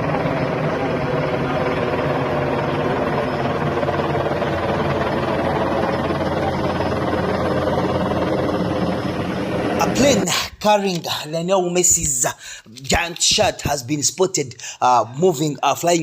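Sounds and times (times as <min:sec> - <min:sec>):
helicopter rotor chop: 0:00.0 - 0:14.2.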